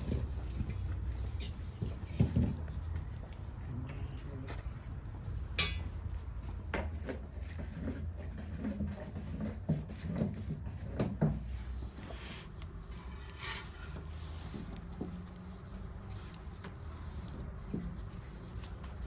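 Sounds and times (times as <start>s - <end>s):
soft rubbing and scraping: 0.0s - 5.4s, 7.2s - 19.0s.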